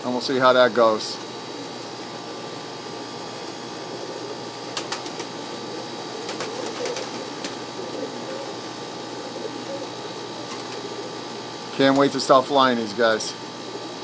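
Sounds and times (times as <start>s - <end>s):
steady background hiss: 0.0s - 14.0s
pigeons cooing: 1.2s - 14.0s.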